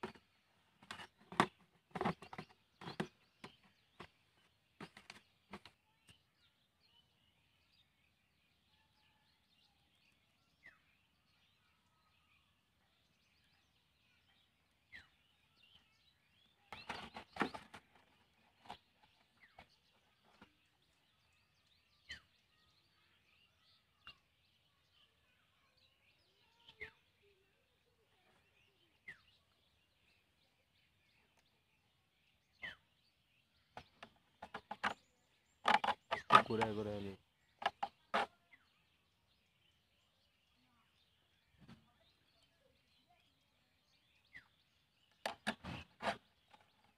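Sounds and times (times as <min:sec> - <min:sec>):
faint bird chirps: 0:00.0 - 0:46.9.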